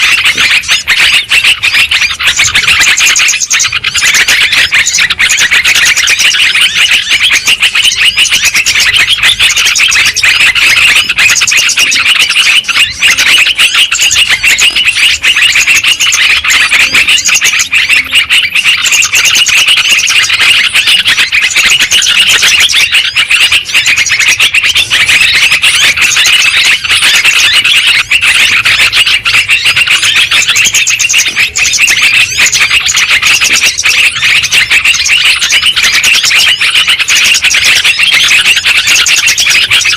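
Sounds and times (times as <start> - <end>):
birds singing and chattering: 0.0 - 39.9.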